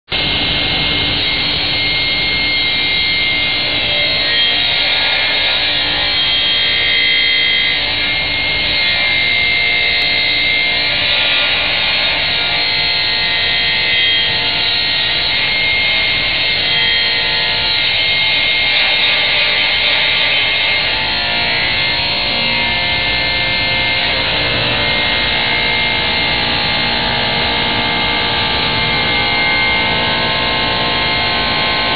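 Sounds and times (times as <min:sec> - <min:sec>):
saw blade high-pitched whine: 0:00.1 - 0:31.9
saw cutting board: 0:00.1 - 0:31.9.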